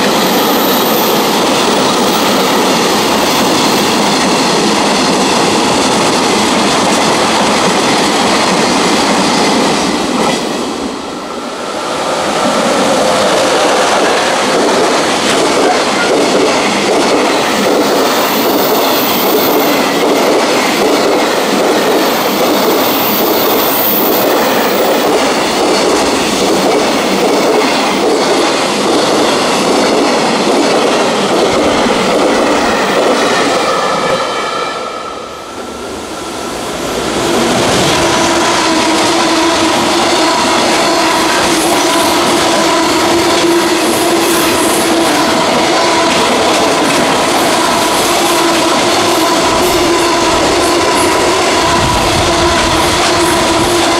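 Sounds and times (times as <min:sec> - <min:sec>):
freight train passing at speed: 0:00.0 - 0:53.9.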